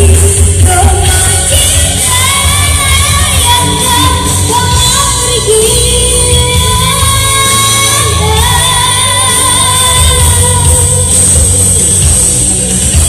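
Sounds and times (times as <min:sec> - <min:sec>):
boy singing into a microphone: 0:00.0 - 0:11.6
amplified musical accompaniment: 0:00.0 - 0:13.0.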